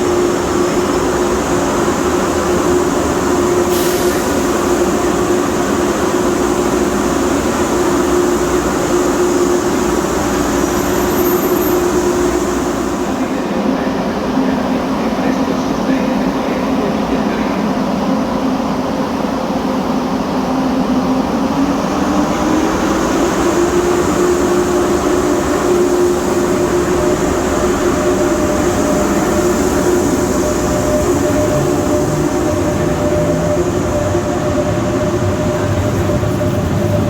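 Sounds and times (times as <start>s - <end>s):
electric train running: 0.0s - 16.6s, 20.6s - 37.0s.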